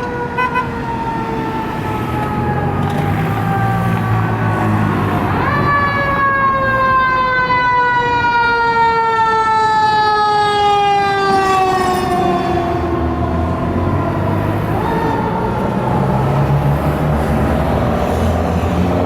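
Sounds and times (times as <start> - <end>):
fire engine mechanical siren: 0.0 - 19.0.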